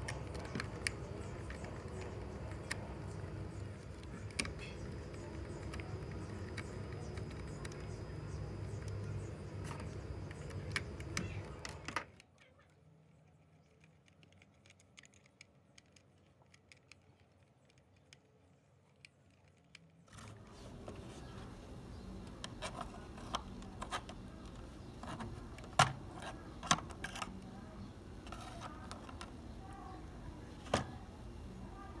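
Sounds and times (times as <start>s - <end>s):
small hard parts clicking: 0.0s - 12.3s, 13.3s - 31.5s.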